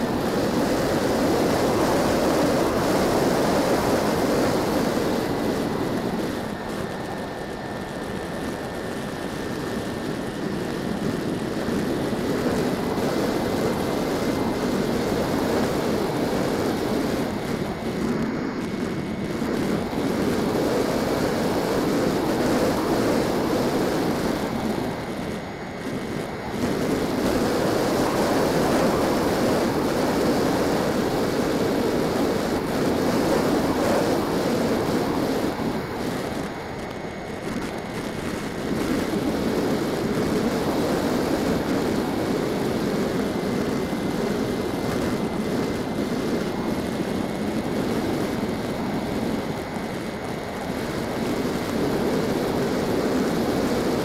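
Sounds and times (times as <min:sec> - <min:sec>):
motor and propeller whine: 0:00.0 - 0:54.0.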